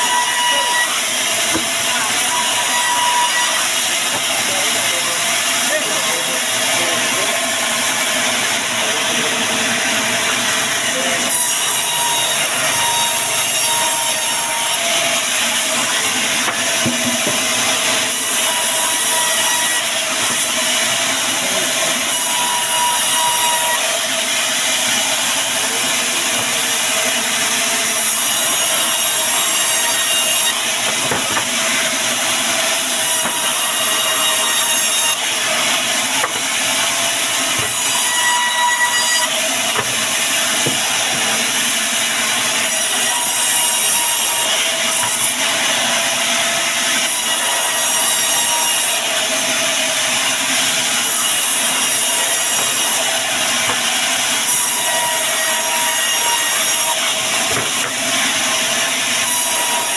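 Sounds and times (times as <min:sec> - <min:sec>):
saw blade cutting timber: 0:00.0 - 0:59.9.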